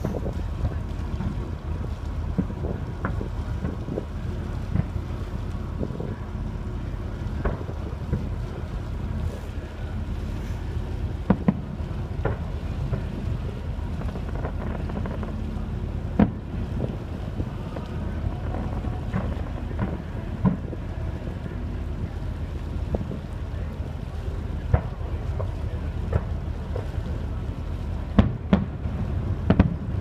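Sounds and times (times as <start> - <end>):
distant fireworks popping: 0.0 - 30.0
ferry engine rumble: 0.0 - 30.0
wind buffeting microphone: 0.0 - 30.0.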